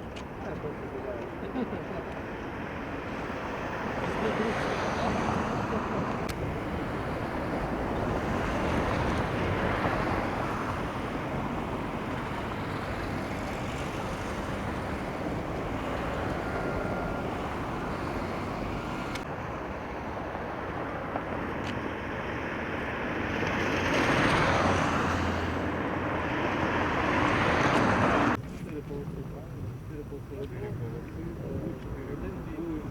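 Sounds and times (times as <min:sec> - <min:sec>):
road traffic noise: 0:00.0 - 0:32.9
vehicle passing: 0:01.6 - 0:28.4.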